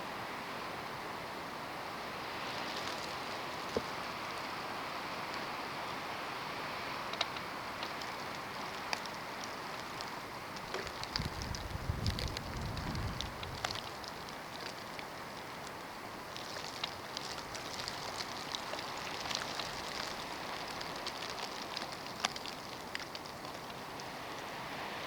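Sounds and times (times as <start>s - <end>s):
snow grains ticking on surfaces: 2.0s - 6.1s, 6.9s - 25.0s.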